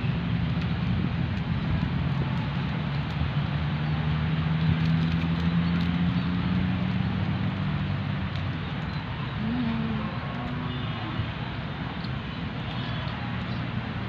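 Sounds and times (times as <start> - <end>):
passing vehicles engine hum: 0.0 - 14.0
road and wind hiss: 0.0 - 14.0.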